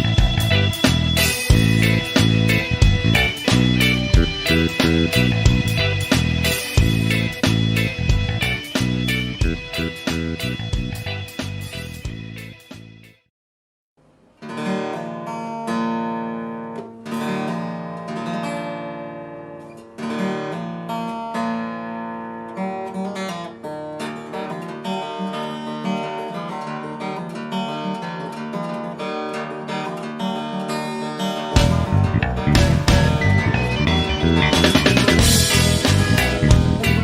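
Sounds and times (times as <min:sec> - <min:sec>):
strummed acoustic guitar music: 0:00.0 - 0:13.1, 0:14.4 - 0:37.0.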